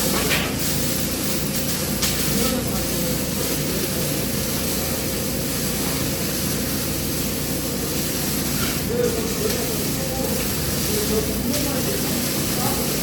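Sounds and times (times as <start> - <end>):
welding arc hiss and hum: 0.0 - 13.0.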